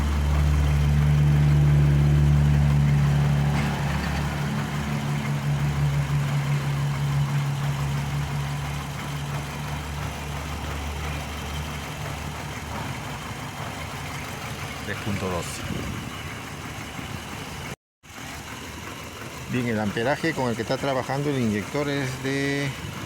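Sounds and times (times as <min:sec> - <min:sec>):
car engine idling unevenly: 0:00.0 - 0:23.0.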